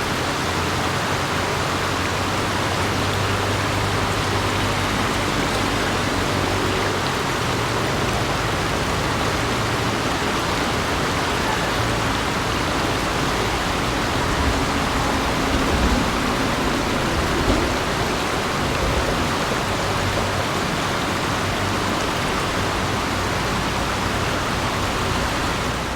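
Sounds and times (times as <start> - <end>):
river water rushing: 0.0 - 25.9
water splashing: 0.2 - 25.9.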